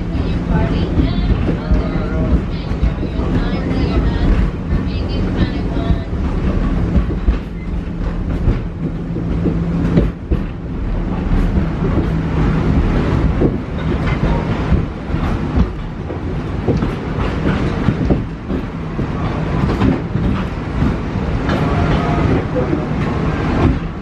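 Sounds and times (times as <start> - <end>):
knocks and rattles: 0.0 - 24.0
train wheels rumbling on rail: 0.0 - 24.0.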